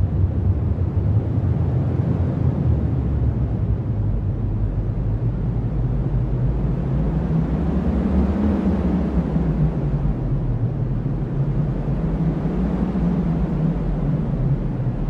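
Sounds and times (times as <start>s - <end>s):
strong wind rumbling: 0.0s - 15.0s.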